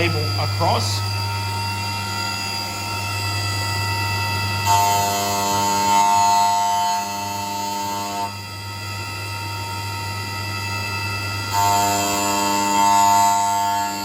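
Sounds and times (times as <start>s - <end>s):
machine whine: 0.0s - 14.0s
mill spindle hum: 0.0s - 14.0s.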